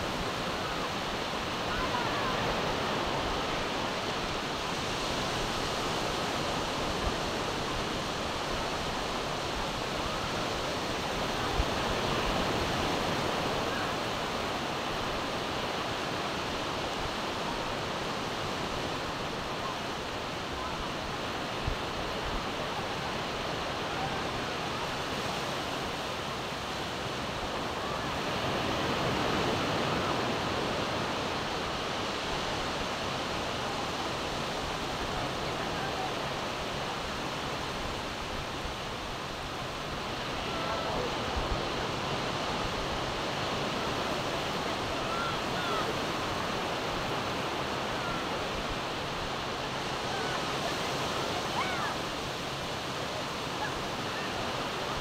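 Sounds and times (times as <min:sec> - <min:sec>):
surf breaking on beach: 0:00.0 - 0:55.0
wind: 0:00.0 - 0:55.0.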